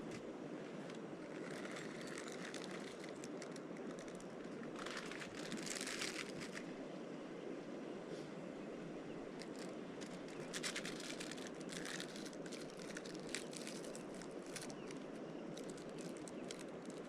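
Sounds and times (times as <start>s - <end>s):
crinkling with crackles: 0.0s - 6.8s, 9.3s - 17.0s.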